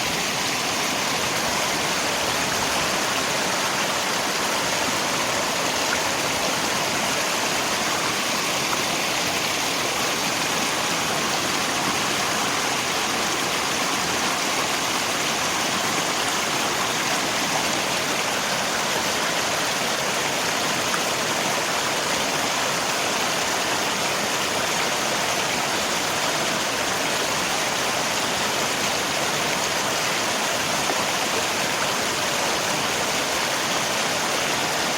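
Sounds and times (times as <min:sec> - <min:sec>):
river flowing: 0:00.0 - 0:34.9.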